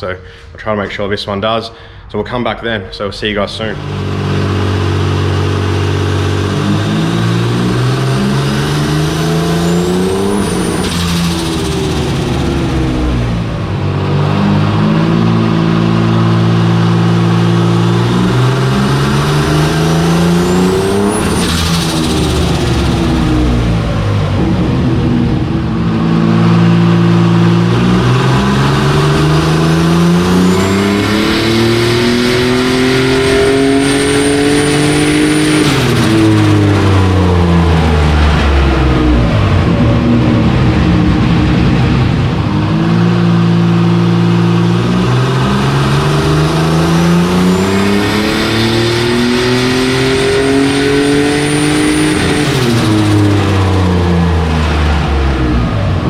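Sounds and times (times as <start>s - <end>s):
engine revving on a dyno: 3.7s - 56.0s.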